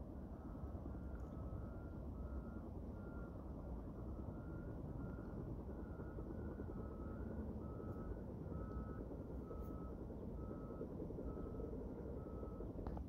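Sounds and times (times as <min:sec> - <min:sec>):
low engine rumble: 0:00.0 - 0:13.0
reversing alarms beeping: 0:00.3 - 0:12.8.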